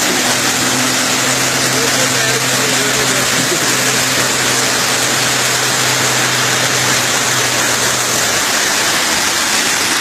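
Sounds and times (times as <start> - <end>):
floodwater rushing: 0.0 - 10.0
truck engine hum: 0.0 - 10.0.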